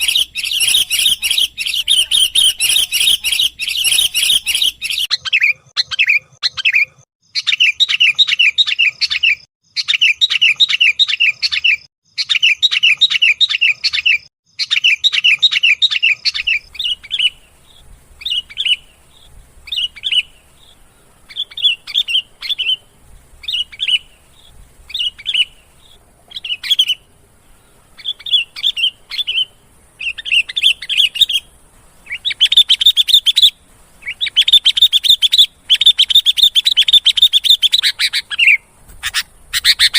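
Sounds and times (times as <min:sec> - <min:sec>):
bird chattering and chirping: 0:00.0 - 0:39.9.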